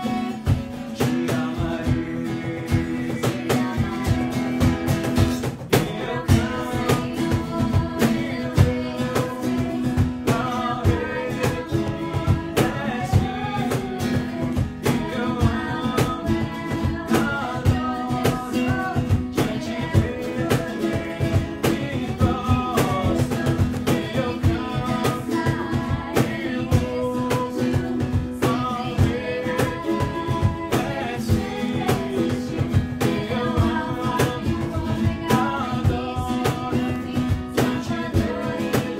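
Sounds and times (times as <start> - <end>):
strummed acoustic guitar: 0.0 - 38.9
voices singing: 0.0 - 38.9.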